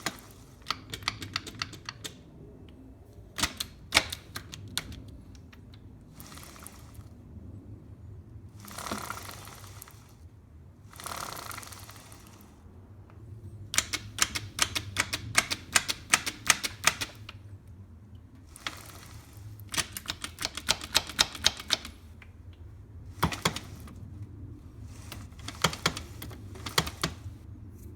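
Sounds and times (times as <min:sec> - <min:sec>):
rapid mechanical clicking: 0:00.0 - 0:02.3, 0:03.3 - 0:07.2, 0:08.6 - 0:10.2, 0:10.8 - 0:12.6, 0:13.7 - 0:17.4, 0:18.4 - 0:27.5.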